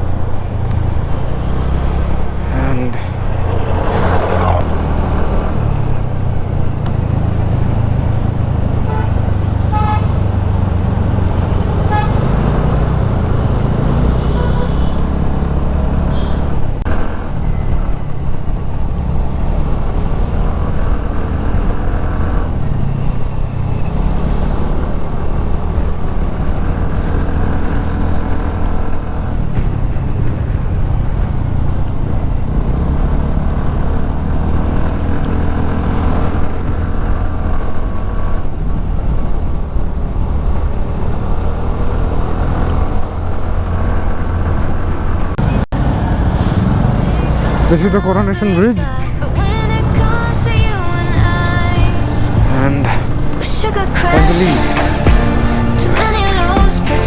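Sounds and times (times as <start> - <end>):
engine and wind rumble: 0.0 - 57.0.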